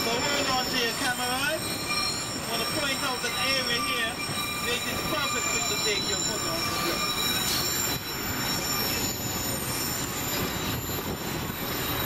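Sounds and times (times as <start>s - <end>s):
high wheel squeal on rails: 0.0s - 12.0s
train wheels rumbling on track: 0.0s - 12.0s.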